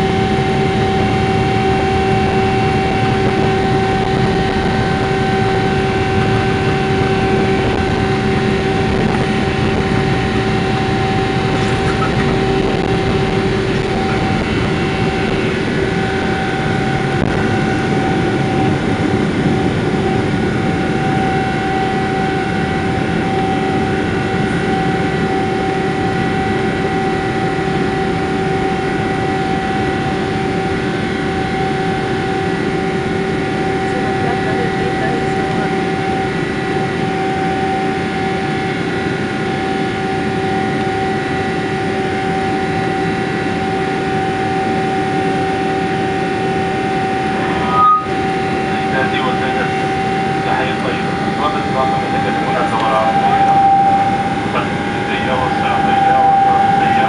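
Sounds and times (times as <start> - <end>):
engine fan tones: 0.0 - 57.0
jet engine roaring: 0.0 - 57.0.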